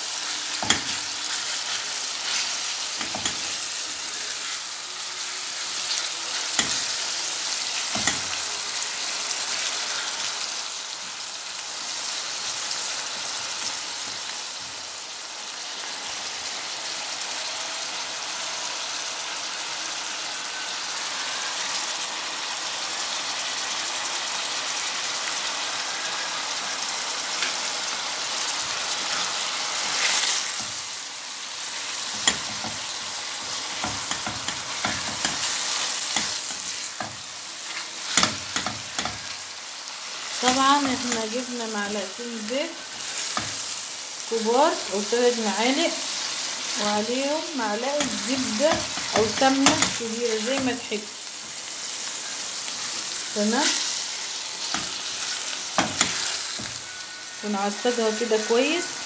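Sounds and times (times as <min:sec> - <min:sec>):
meat sizzling in frying pan: 0:00.0 - 0:59.0.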